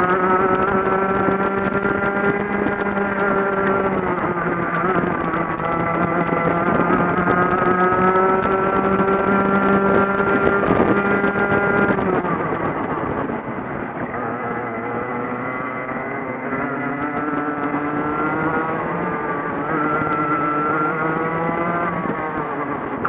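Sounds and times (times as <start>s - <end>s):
kart engine revving: 0.0s - 23.0s.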